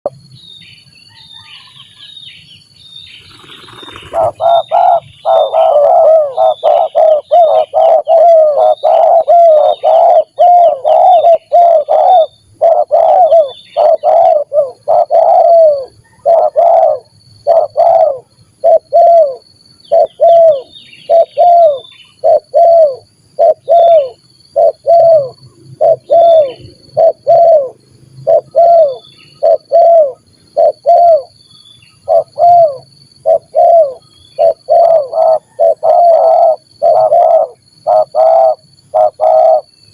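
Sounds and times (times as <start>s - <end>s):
doves cooing: 3.2s - 31.4s, 32.0s - 39.8s.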